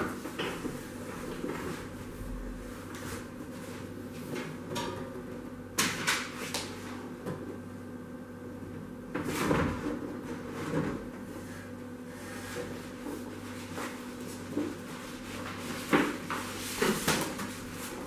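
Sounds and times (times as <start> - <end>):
workshop machinery hum: 0.0 - 18.0.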